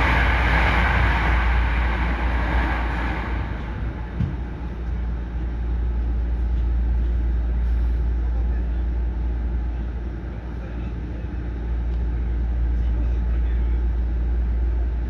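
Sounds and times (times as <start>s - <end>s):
low train hum: 0.0s - 15.0s.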